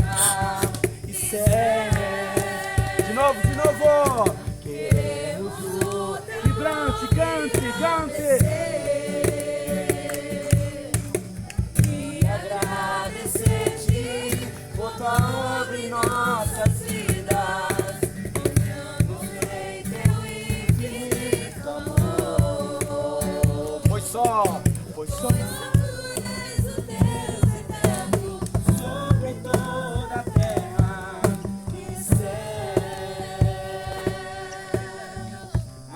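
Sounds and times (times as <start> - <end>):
group singing gospel song: 0.0 - 35.9.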